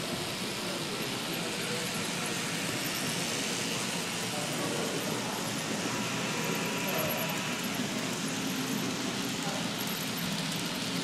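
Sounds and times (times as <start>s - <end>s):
busy hall background hiss: 0.0s - 11.0s.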